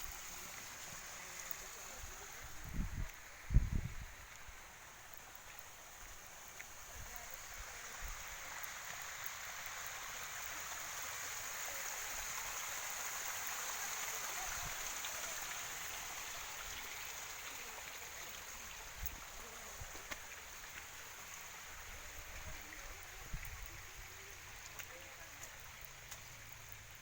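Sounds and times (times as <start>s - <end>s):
stream running water: 0.0s - 27.0s.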